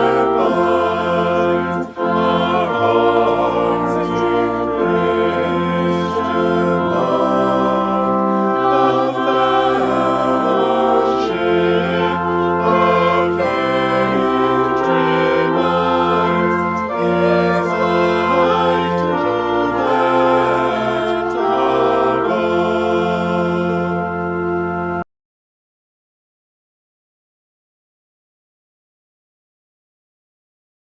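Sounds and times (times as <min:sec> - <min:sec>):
choir singing: 0:00.0 - 0:25.0
sustained accompaniment chords: 0:00.0 - 0:25.0.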